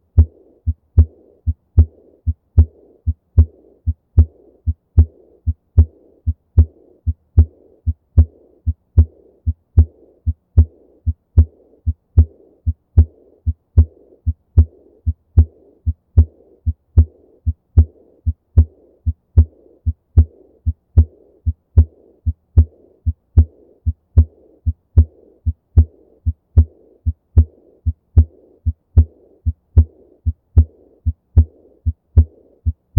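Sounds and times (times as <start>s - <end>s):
heartbeat lub-dub: 0.0s - 32.9s
soft blowing heart murmur: 0.0s - 32.9s.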